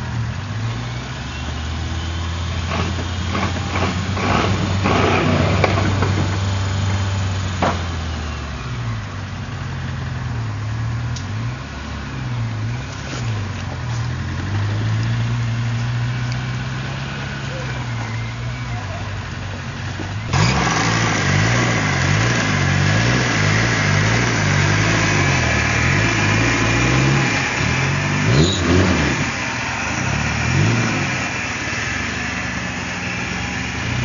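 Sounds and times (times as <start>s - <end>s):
off-road engine revving: 0.0s - 34.0s.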